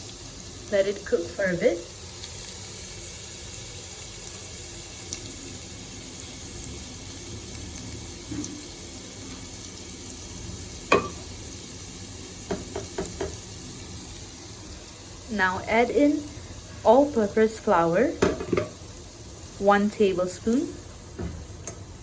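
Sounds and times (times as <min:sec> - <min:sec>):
garlic sizzling in a frying pan: 0:00.0 - 0:22.0.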